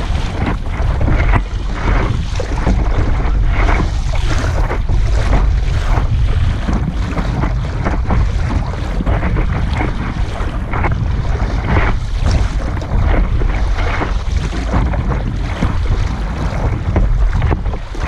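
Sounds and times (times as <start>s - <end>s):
water slapping against paddleboard: 0.0s - 18.0s
wind rumbling on microphone: 0.0s - 18.0s.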